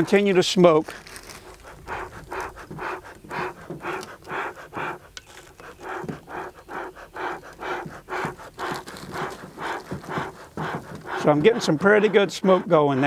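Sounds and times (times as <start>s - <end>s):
bellows puffing air: 0.0s - 13.0s.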